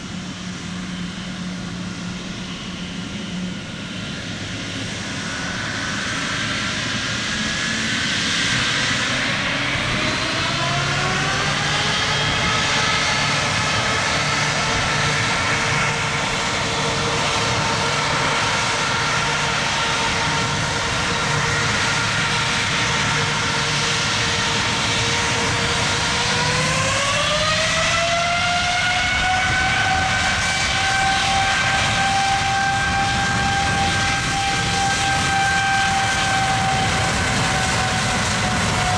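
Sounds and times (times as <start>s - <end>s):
jet engines spooling up: 0.0s - 38.9s.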